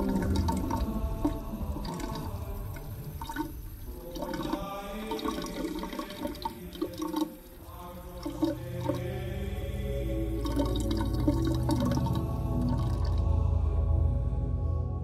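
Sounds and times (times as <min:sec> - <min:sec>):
low hum: 0:00.0 - 0:15.0
water-like synth noise wash: 0:00.0 - 0:15.0.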